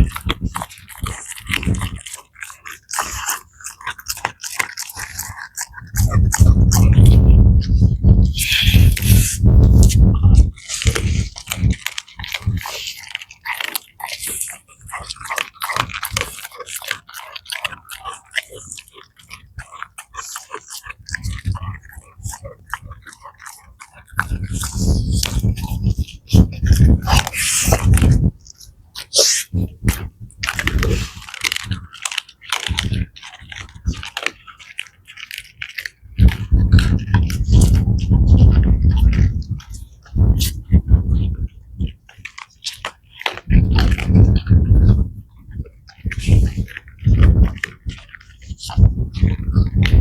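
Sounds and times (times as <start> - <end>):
dog crunching bones: 0.0 - 50.0.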